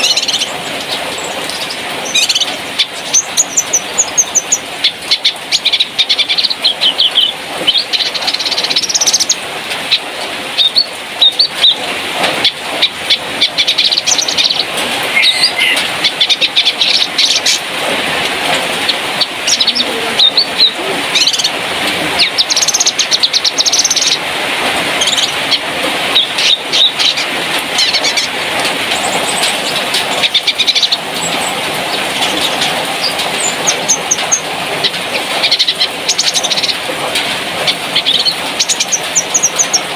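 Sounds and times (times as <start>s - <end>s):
bird singing chirps and trills: 0.0s - 17.7s, 18.7s - 24.3s, 24.9s - 36.9s, 37.5s - 39.9s.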